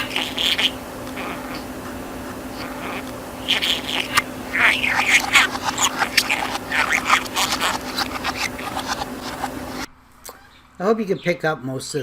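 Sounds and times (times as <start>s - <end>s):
budgerigar chattering: 0.0s - 10.6s
low electrical hum: 0.0s - 12.0s.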